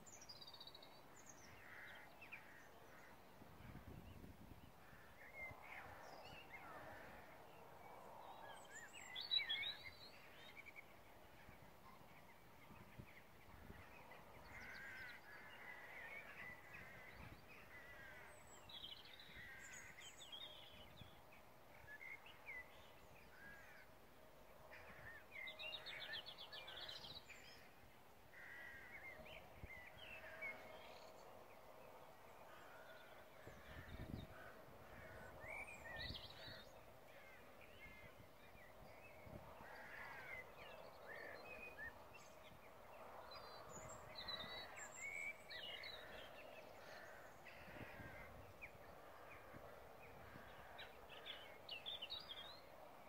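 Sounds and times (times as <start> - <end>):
faint birds chirping: 0.0 - 53.0.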